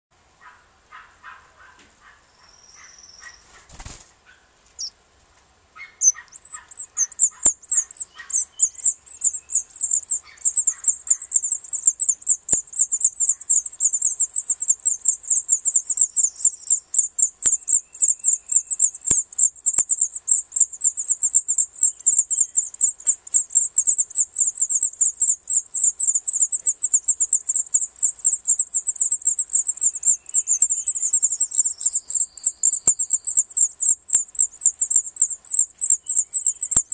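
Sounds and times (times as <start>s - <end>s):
nestlings cheeping: 4.7s - 4.9s, 5.9s - 36.9s.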